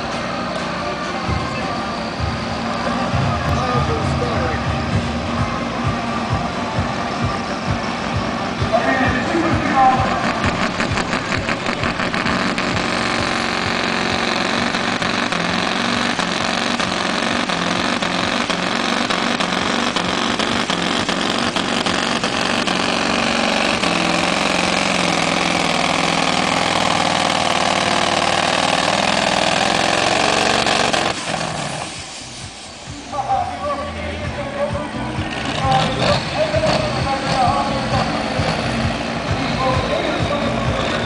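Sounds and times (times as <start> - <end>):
truck engine at full power: 0.0 - 41.0.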